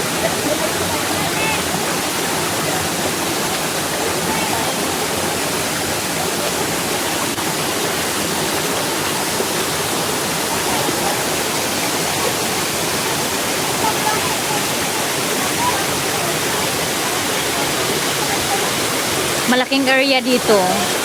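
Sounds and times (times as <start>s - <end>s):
water rushing over waterfall: 0.0s - 21.0s.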